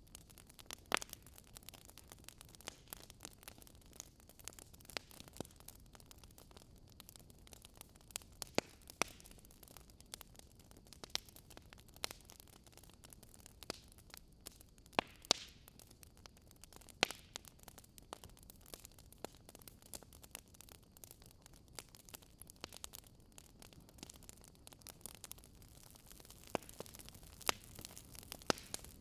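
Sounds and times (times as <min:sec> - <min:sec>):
faint clicks and crackles: 0:00.0 - 0:29.0.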